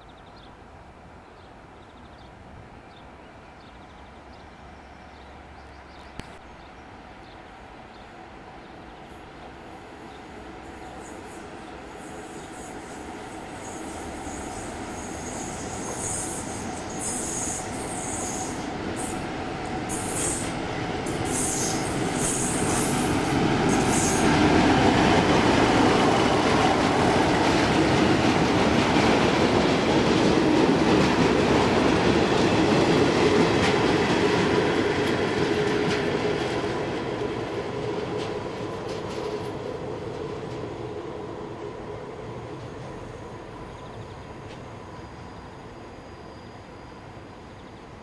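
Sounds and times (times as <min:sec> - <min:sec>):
diesel locomotive engine: 0:06.6 - 0:48.0.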